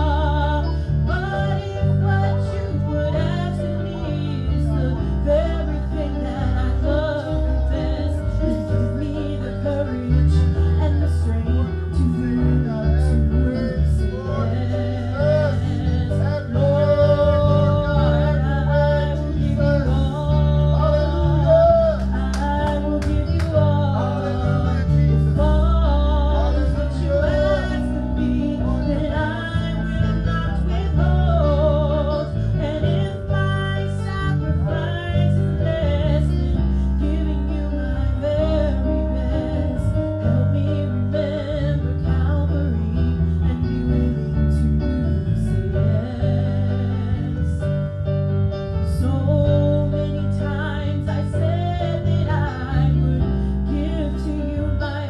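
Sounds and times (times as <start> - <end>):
woman singing gospel: 0.0 - 47.8, 48.9 - 55.0
instruments with heavy bass: 0.0 - 55.0.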